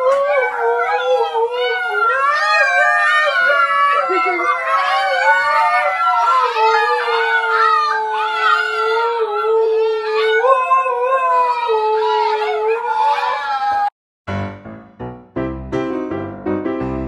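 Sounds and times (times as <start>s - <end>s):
dogs howling: 0.0s - 13.9s.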